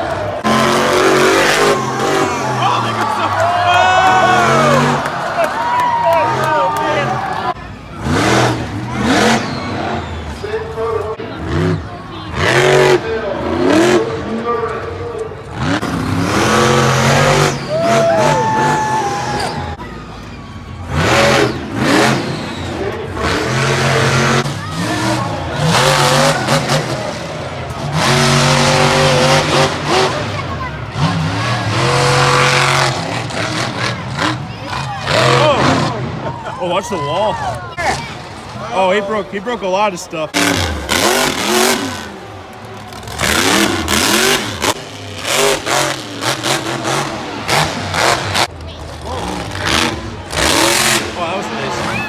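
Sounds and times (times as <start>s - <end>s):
monster truck engine revving: 0.0s - 52.0s.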